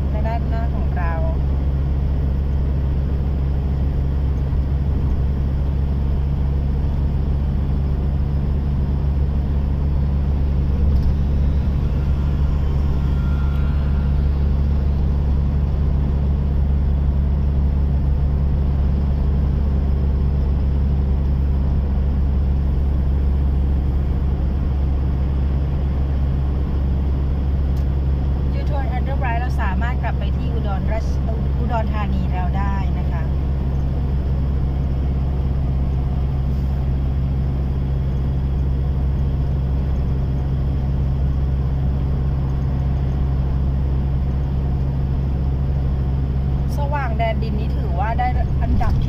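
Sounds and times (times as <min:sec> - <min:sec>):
car interior drone: 0:00.0 - 0:49.0.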